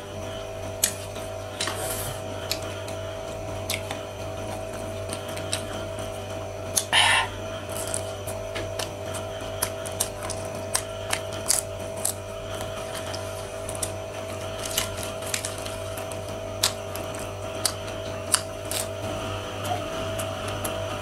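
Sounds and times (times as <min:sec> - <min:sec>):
steady low hum: 0:00.0 - 0:21.0
crisp chewing sounds: 0:00.7 - 0:06.1, 0:06.7 - 0:21.0.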